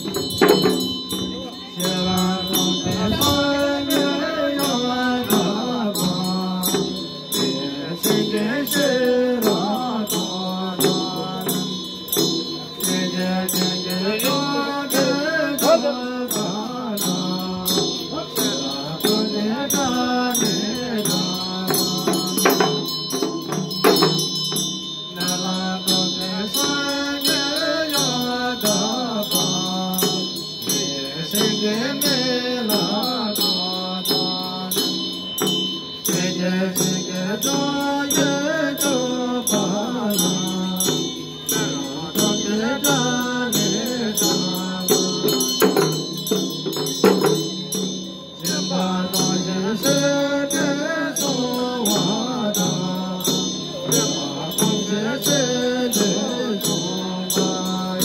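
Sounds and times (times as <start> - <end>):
hand bells ringing: 0.0 - 58.0
hand drums rattling: 0.0 - 58.0
voices chanting a mantra: 0.0 - 58.0.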